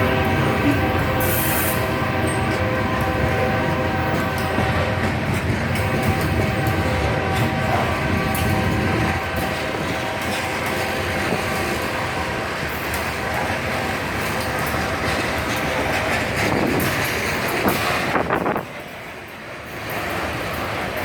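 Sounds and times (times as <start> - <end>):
freight train rolling past: 0.0 - 21.0
train cars clanking: 0.0 - 21.0.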